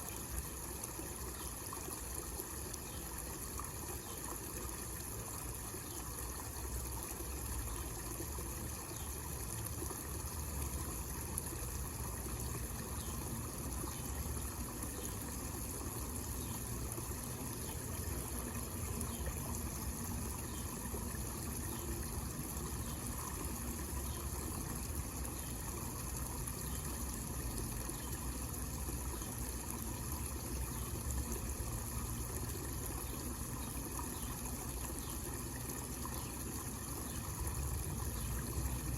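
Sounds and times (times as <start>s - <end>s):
fountain water trickling: 0.0s - 38.9s.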